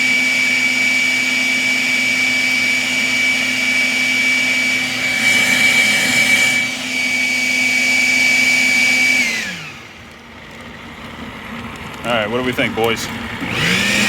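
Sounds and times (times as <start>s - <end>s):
leaf blower whining: 0.0s - 14.0s.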